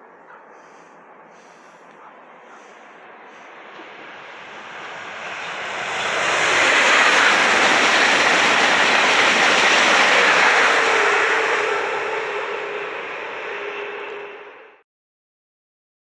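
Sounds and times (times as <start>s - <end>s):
high-speed train rushing past: 0.0s - 14.8s.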